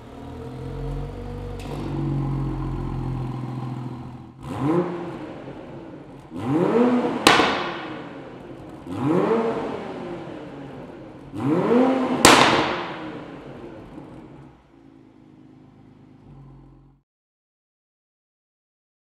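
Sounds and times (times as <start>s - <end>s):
car engine revving: 0.0s - 17.0s
exhaust cracking: 0.0s - 17.0s.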